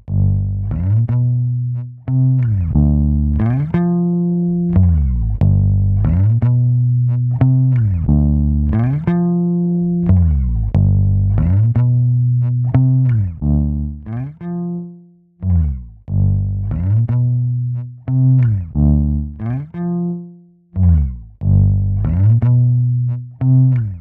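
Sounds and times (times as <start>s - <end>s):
bass guitar riff: 0.0s - 24.0s.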